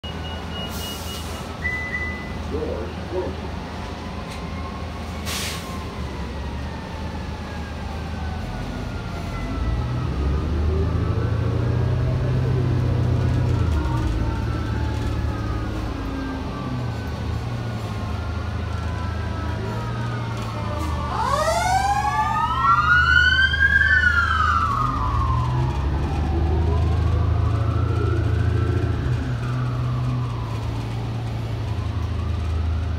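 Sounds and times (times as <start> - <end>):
diesel engine rumbling: 0.0 - 32.9
emergency sirens wailing: 0.0 - 32.9.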